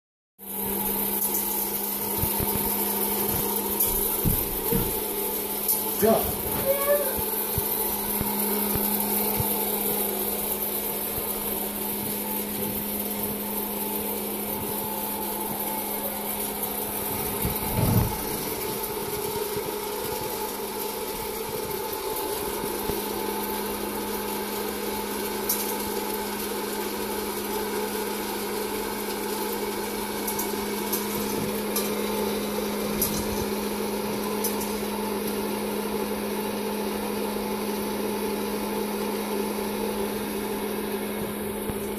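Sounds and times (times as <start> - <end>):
popcorn popper fan humming: 0.4 - 41.9.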